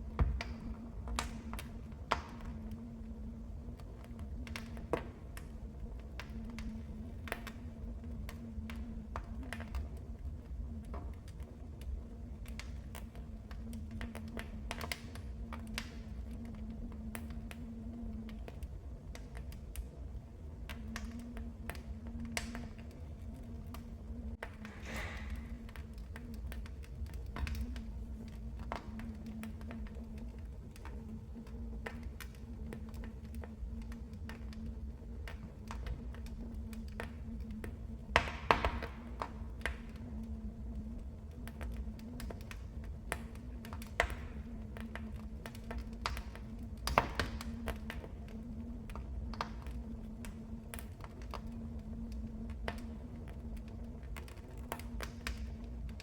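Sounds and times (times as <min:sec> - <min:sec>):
fire flames rumbling: 0:00.0 - 0:56.0
wood fire crackling and popping: 0:00.0 - 0:56.0.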